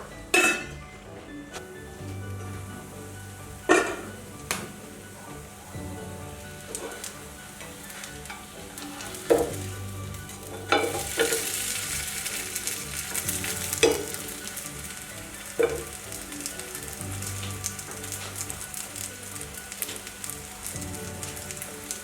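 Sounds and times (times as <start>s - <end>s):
food sizzling in a pan: 2.4s - 22.0s.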